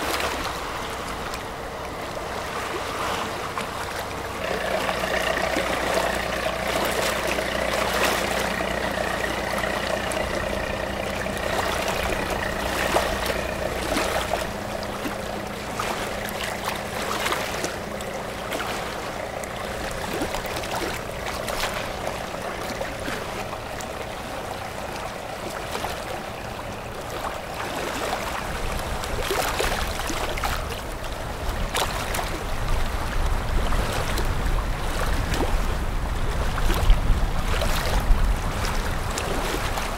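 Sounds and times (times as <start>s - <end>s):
boat engine drone and whine: 0.0s - 39.9s
bow wave rushing water: 0.0s - 39.9s
low rumble: 4.2s - 39.6s.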